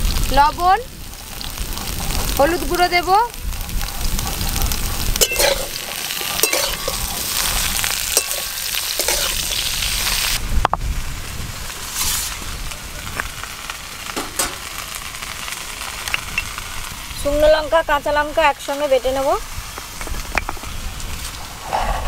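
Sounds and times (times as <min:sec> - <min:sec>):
vegetables sizzling in oil: 0:00.0 - 0:21.9.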